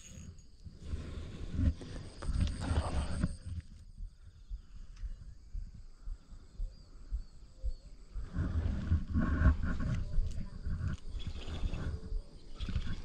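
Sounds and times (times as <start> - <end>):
wind buffeting microphone: 0.6 - 13.0.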